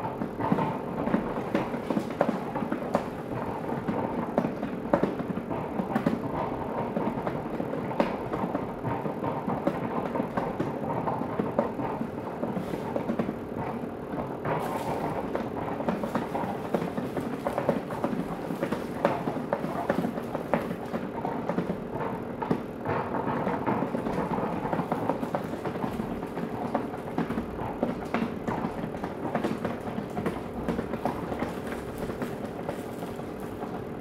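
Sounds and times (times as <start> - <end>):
garment steamer running: 0.0 - 34.0.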